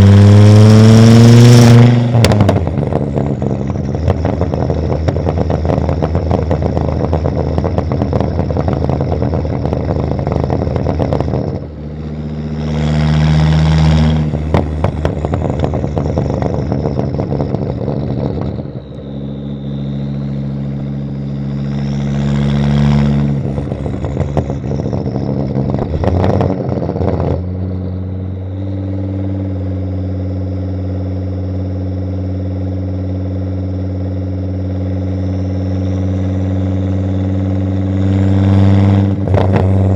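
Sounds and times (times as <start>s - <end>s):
car engine revving with exhaust pops: 0.0s - 39.9s.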